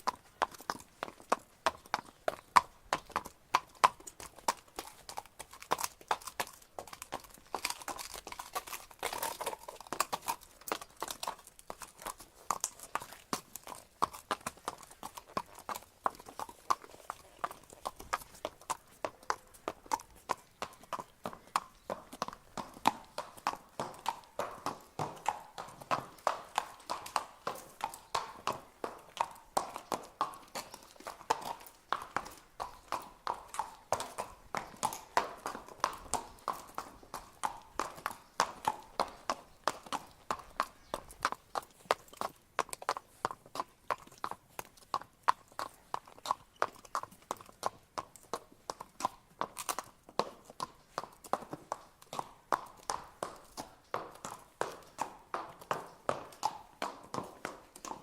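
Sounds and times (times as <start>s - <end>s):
hooves clip-clopping on hard ground: 0.0s - 58.0s.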